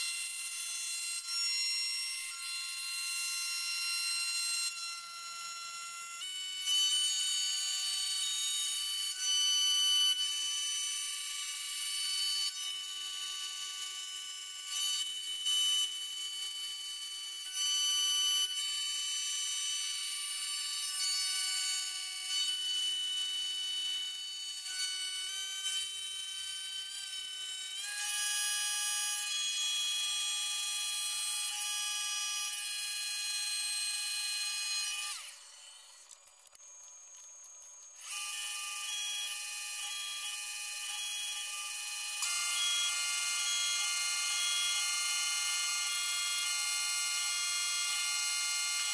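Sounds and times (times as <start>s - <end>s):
milling machine cutting whine: 0.0s - 48.9s.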